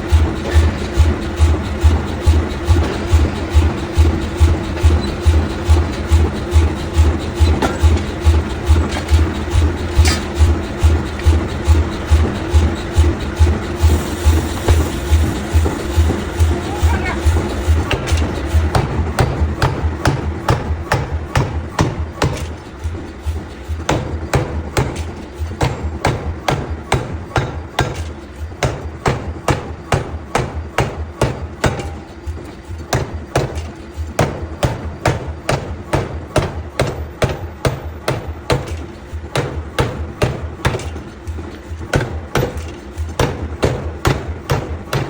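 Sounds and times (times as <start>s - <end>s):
hammer striking metal: 0.4s - 12.7s, 14.6s - 23.0s, 23.9s - 45.0s.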